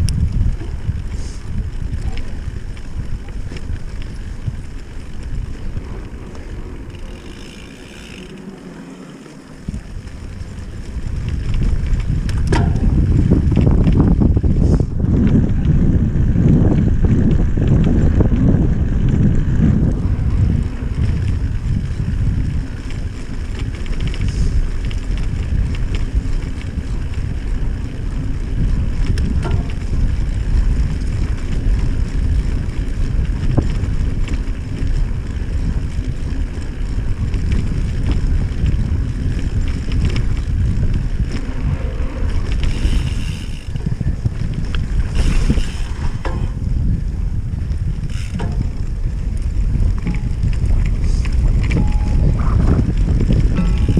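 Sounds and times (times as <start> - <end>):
bike tyres rolling over grass: 0.0 - 53.9
wind rushing over microphone: 0.0 - 53.9.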